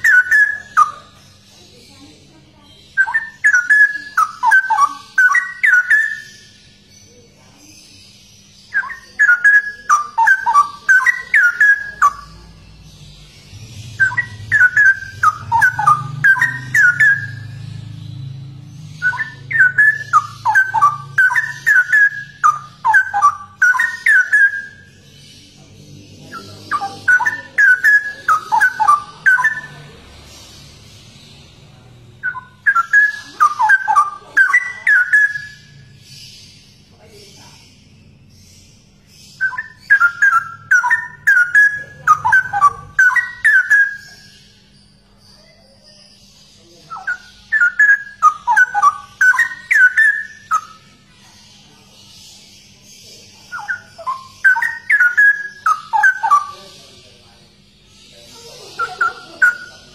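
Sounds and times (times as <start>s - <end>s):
bird singing whistled notes: 0.0s - 59.9s.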